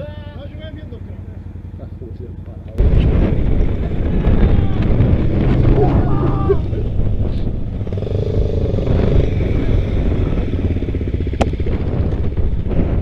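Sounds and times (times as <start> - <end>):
dirt bike engines idling: 0.0 - 13.0.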